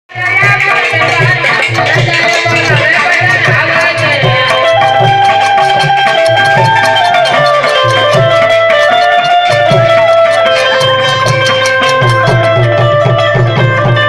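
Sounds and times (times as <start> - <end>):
steady drum beat: 0.1 - 14.0
held melody notes: 0.3 - 14.0.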